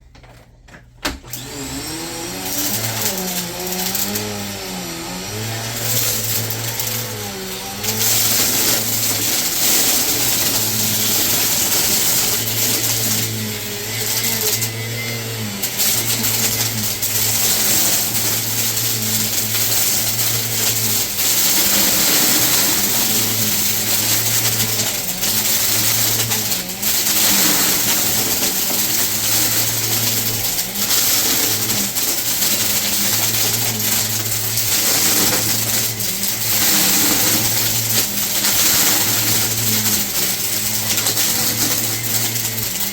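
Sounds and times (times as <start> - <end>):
vacuum cleaner running: 1.0 - 42.9.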